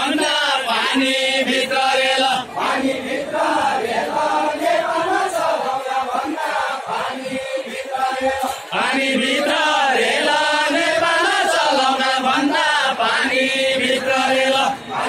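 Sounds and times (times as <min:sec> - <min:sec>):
group singing chant-like song: 0:00.0 - 0:15.0.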